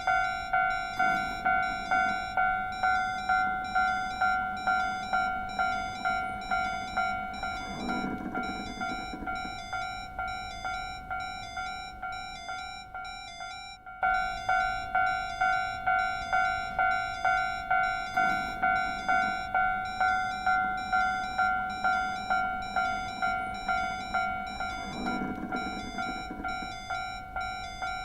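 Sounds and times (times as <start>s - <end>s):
level-crossing warning bell: 0.0s - 28.0s.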